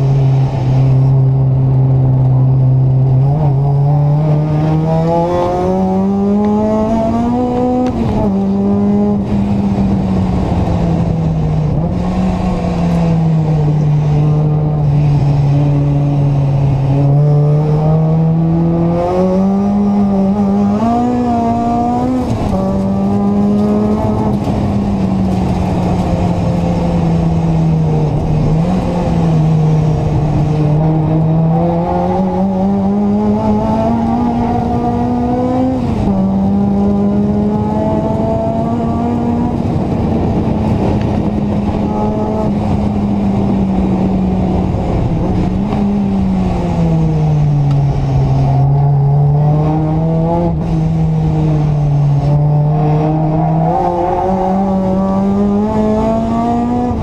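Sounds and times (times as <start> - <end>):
car engine revving and upshifting: 0.0 - 57.0.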